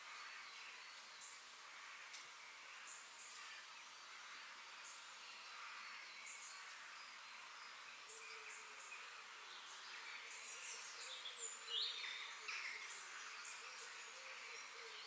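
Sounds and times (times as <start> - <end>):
faint insect buzz: 0.0 - 15.0
small birds chirping: 0.0 - 15.0.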